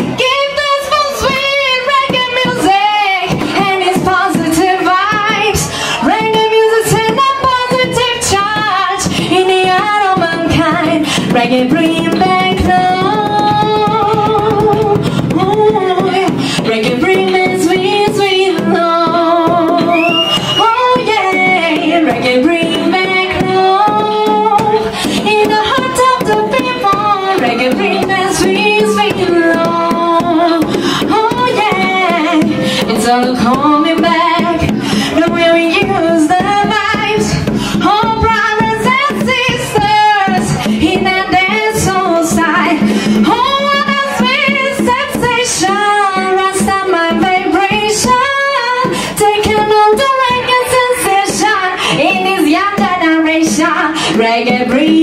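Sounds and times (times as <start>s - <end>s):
reggae backing track: 0.0s - 55.0s
woman singing into microphone: 0.0s - 55.0s.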